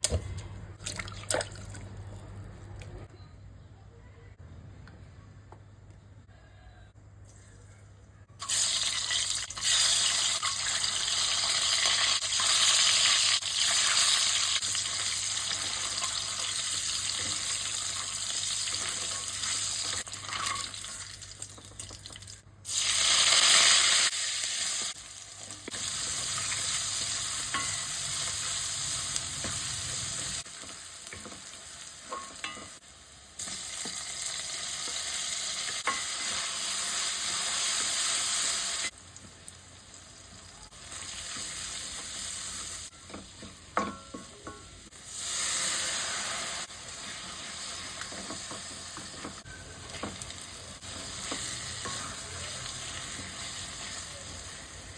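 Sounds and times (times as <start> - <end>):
food sizzling in oil: 8.4 - 54.9.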